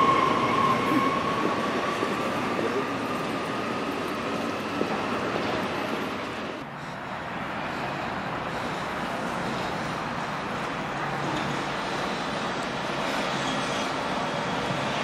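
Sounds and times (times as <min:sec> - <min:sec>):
train passing: 0:00.0 - 0:15.0.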